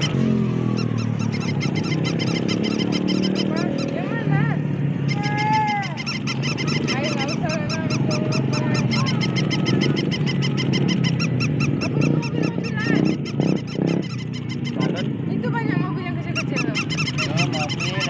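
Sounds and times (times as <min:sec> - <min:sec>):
electronic toy chirps: 0:00.0 - 0:04.0, 0:05.1 - 0:15.0, 0:16.3 - 0:18.0.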